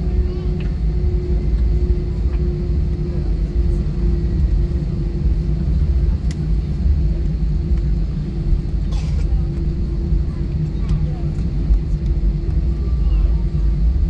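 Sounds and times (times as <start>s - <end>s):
aircraft cabin rumble: 0.0s - 14.0s
steady hum: 0.0s - 14.0s.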